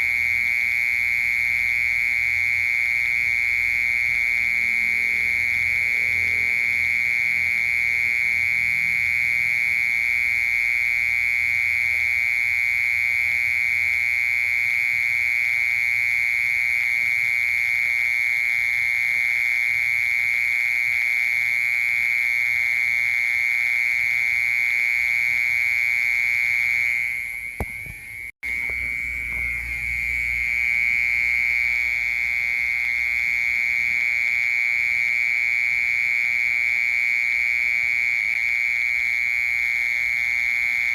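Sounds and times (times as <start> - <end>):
mole cricket trilling: 0.0 - 40.9.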